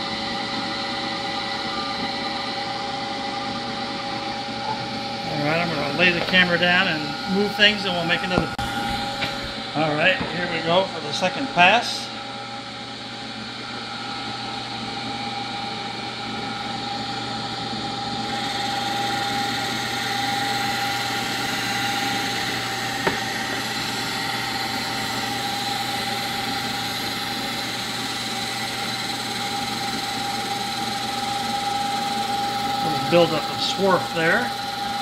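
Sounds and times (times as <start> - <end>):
milling machine hum with whine: 0.0 - 35.0.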